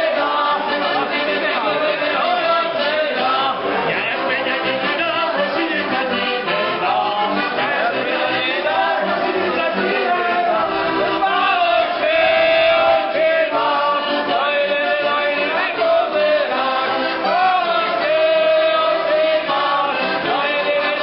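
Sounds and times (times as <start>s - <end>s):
button accordion playing folk tune: 0.0s - 21.0s
young man singing loudly: 0.0s - 21.0s.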